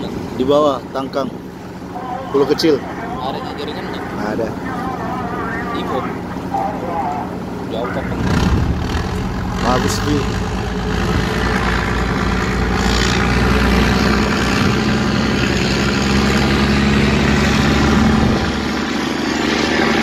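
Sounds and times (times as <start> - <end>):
ship engine rumble: 0.0 - 20.0.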